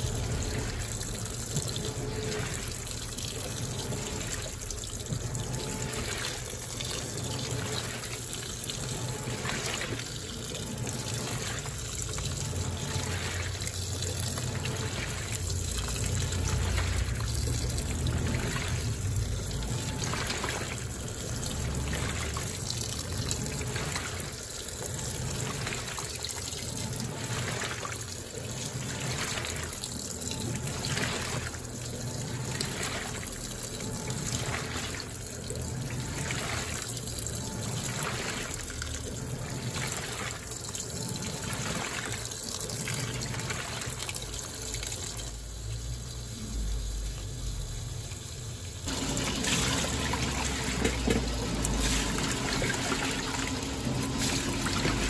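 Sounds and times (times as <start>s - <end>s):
washing machine churning water: 0.0s - 55.0s
water pouring into washing machine: 0.0s - 55.0s.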